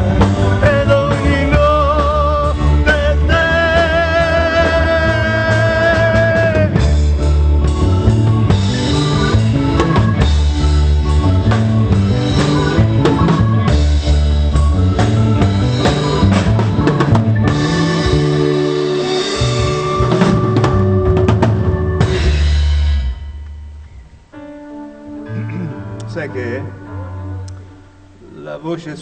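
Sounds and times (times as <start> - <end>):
live pop band playing: 0.0 - 29.0.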